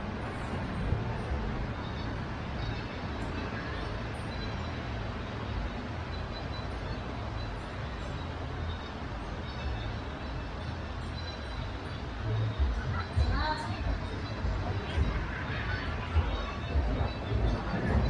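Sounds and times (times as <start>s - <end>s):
ocean surf: 0.0s - 18.0s.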